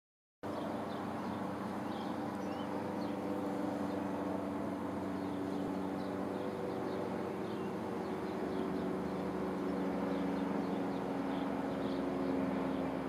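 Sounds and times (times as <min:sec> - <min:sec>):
steady mechanical hum: 0:00.5 - 0:13.0.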